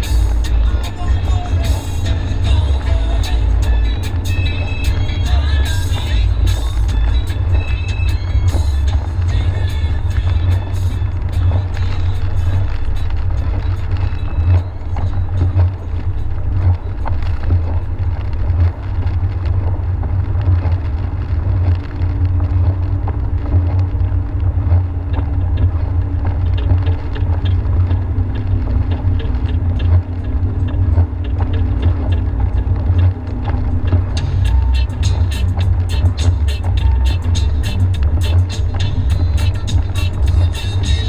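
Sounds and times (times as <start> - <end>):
car engine and tyre noise: 0.0 - 41.0
faint steady drone: 0.0 - 41.0.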